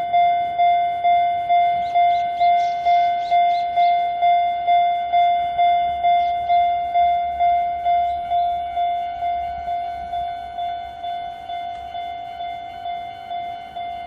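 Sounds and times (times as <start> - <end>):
level crossing alarm ringing: 0.0 - 14.0.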